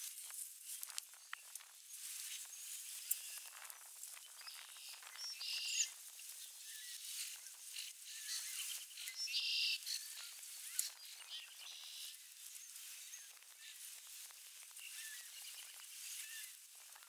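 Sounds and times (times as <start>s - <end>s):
background hiss: 0.0s - 17.0s
faint bird chirps: 2.2s - 13.9s, 14.6s - 17.0s
buzzy bird calls: 2.2s - 17.0s.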